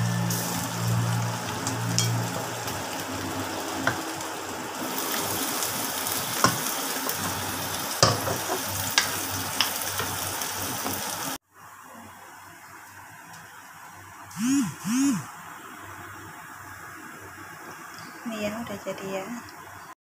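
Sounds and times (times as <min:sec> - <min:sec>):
stir-fry sizzling in wok: 0:00.0 - 0:19.9.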